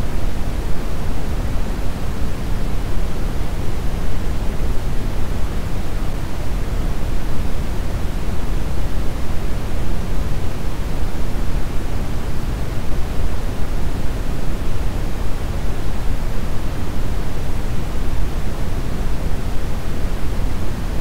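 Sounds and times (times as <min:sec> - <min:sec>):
brown noise hiss: 0:00.0 - 0:21.0.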